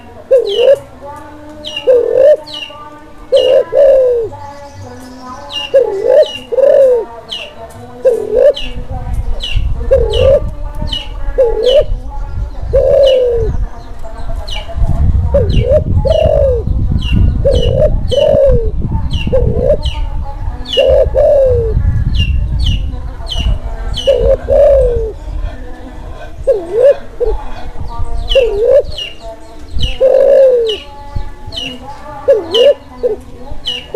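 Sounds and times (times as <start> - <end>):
dove cooing: 0.0 - 1.0, 1.6 - 2.6, 3.2 - 4.4, 5.5 - 8.9, 9.5 - 12.0, 12.6 - 13.7, 15.2 - 21.9, 23.4 - 33.9.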